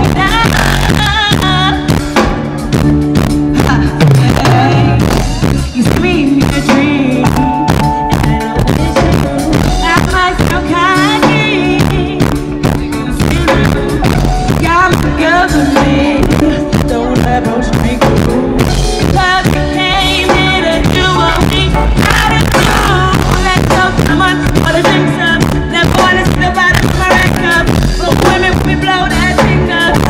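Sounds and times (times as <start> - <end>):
woman singing into microphone: 0.0 - 2.3, 3.6 - 30.0
drum kit beat: 0.0 - 30.0
live band playing: 0.0 - 30.0.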